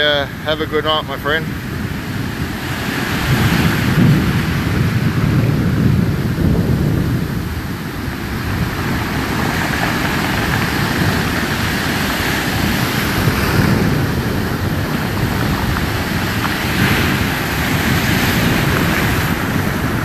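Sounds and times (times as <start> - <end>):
storm surf breaking: 0.0 - 20.0
wind buffeting microphone: 0.0 - 20.0.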